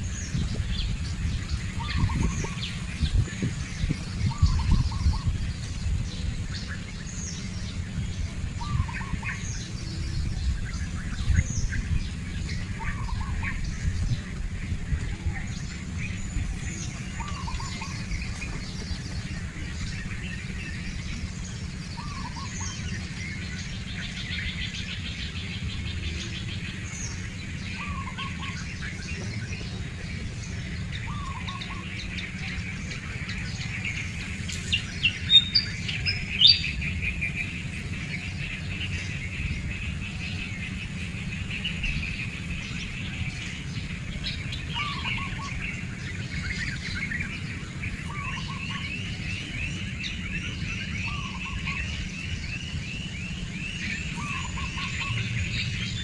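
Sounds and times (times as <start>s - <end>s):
steady low rumble: 0.0s - 56.0s
wild birds chirping: 0.0s - 56.0s.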